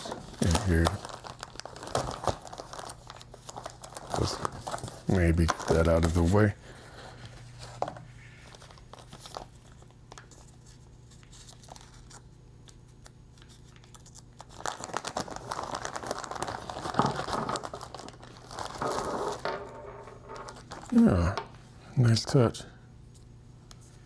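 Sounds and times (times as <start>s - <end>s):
plastic packaging crinkling: 0.0s - 6.8s, 7.6s - 12.2s, 13.4s - 21.4s.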